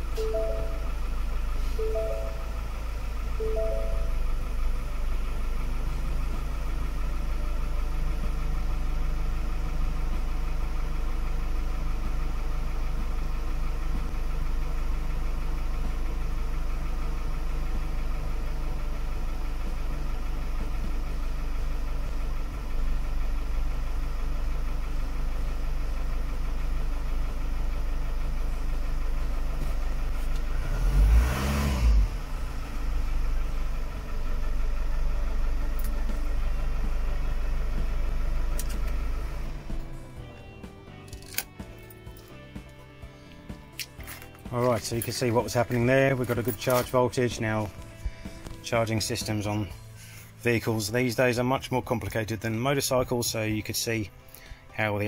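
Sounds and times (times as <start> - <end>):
van engine idling: 0.0 - 55.0.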